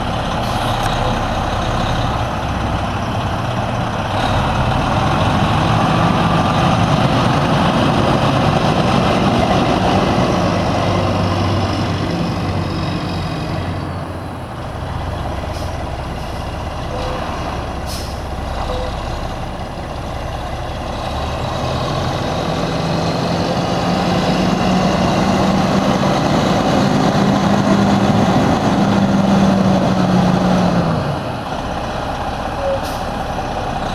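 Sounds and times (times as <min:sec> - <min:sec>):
diesel truck engine running: 0:00.0 - 0:33.9.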